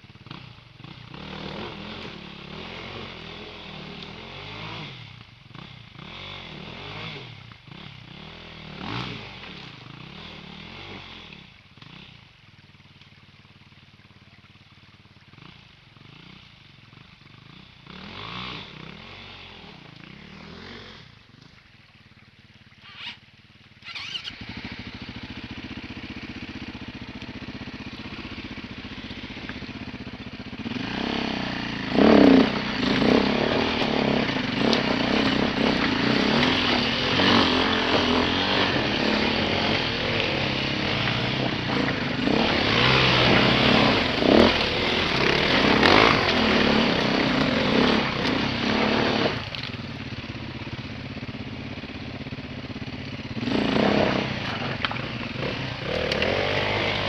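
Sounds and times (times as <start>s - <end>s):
dirt bike engine revving: 0.2s - 12.1s, 17.5s - 21.3s, 23.8s - 57.0s.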